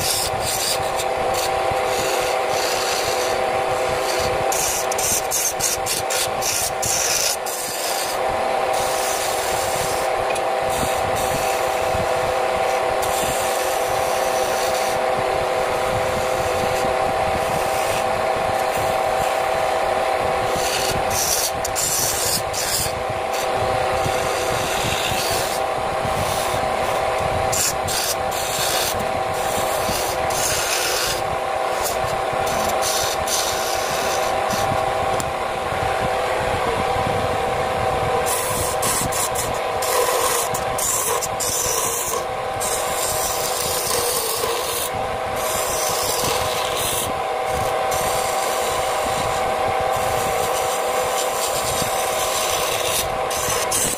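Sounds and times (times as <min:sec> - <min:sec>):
chisel scraping spinning wood: 0:00.0 - 0:36.7, 0:37.4 - 0:53.9
wood lathe humming: 0:00.0 - 0:53.9.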